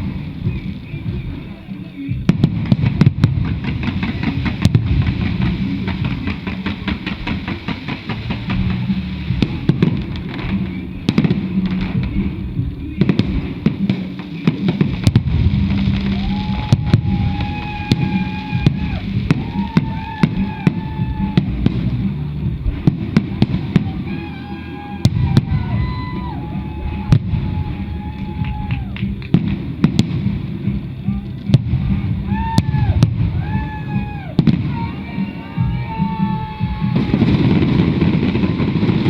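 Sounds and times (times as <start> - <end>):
low rumble: 0.0 - 13.9, 14.8 - 39.0
fireworks bangs and crackles: 0.0 - 39.0
music with held notes: 0.0 - 39.0.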